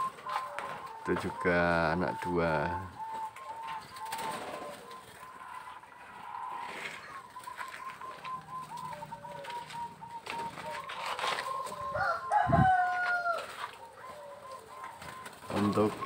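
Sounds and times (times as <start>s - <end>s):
doves calling: 0.0s - 16.0s.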